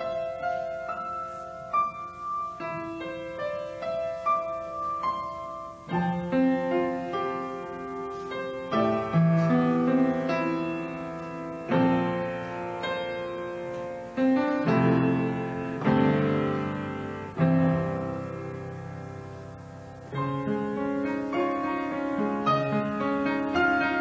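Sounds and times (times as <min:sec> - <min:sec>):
solo piano chords: 0:00.0 - 0:24.0.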